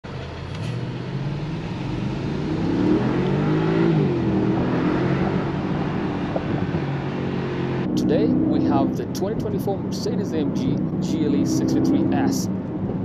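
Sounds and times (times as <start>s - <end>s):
engine accelerating heard from inside: 0.1s - 13.0s.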